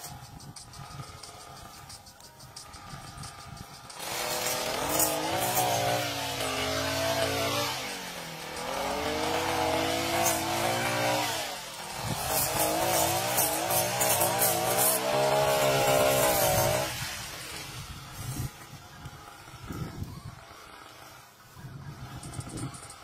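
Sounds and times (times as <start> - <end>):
brush cutter engine at high revs: 0.0 - 1.9, 2.6 - 23.0.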